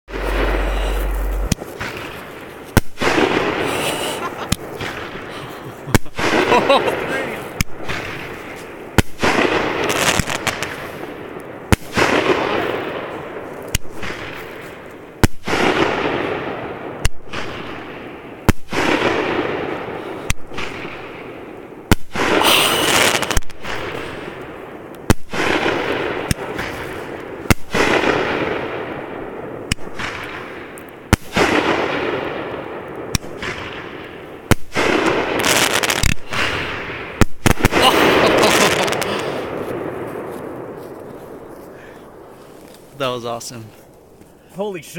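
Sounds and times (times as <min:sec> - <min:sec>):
fireworks exploding: 0:00.1 - 0:41.5.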